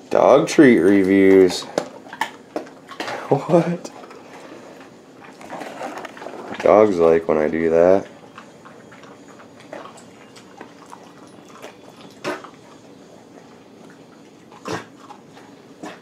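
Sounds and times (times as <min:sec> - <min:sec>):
dog chewing biscuit: 0:00.6 - 0:16.0.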